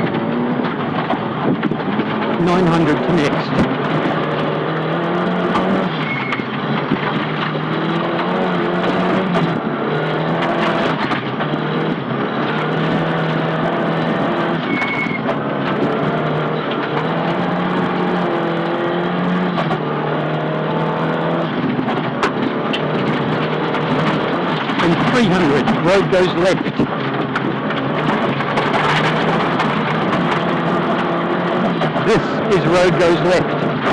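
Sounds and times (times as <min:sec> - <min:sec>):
rally car engine at speed: 0:00.0 - 0:33.9.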